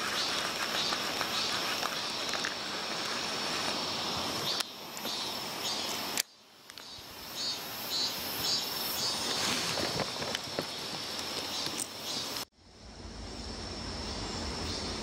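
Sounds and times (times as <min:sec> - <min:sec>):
insects buzzing and chirping: 0:00.0 - 0:15.0
outdoor hiss: 0:00.0 - 0:15.0.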